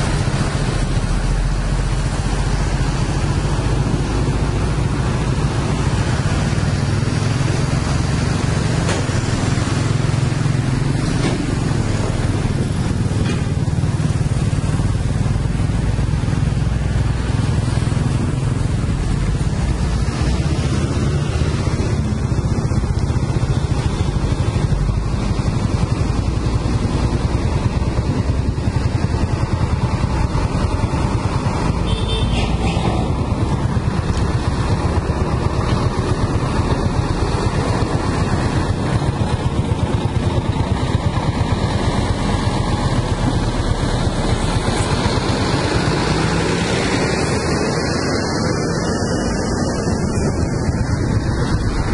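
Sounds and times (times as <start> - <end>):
heavy truck engines: 0.0 - 51.9
motorcycle engines: 0.0 - 51.9.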